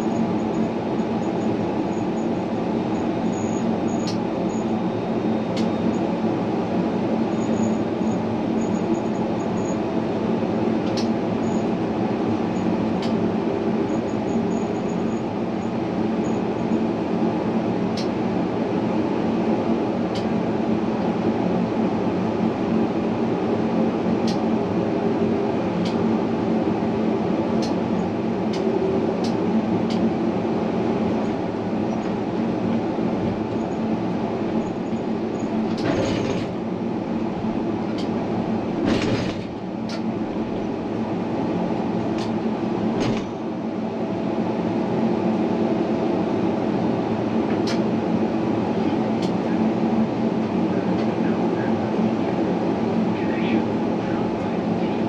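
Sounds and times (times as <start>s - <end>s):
tram rolling rumble: 0.0s - 55.0s.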